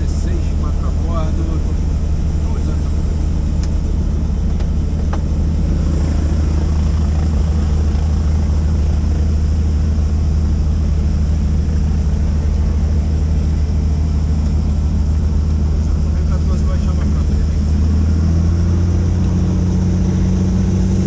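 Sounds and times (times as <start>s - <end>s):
helicopter drone: 0.0s - 21.0s.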